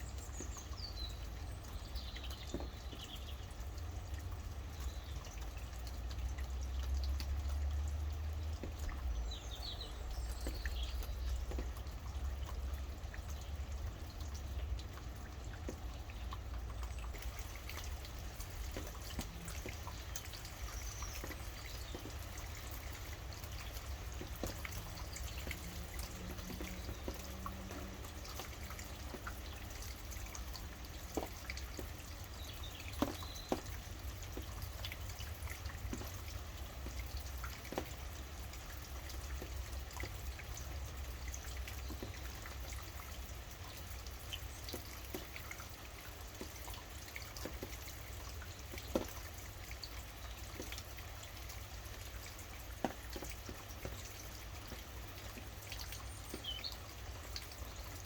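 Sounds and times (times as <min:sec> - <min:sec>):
rain dripping and pattering: 0:00.0 - 0:58.0.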